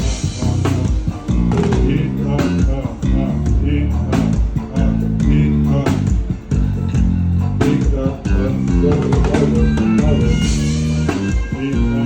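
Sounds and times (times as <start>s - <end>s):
bass guitar low notes: 0.0s - 12.0s
drum hits: 0.0s - 12.0s
electric guitar: 0.0s - 12.0s.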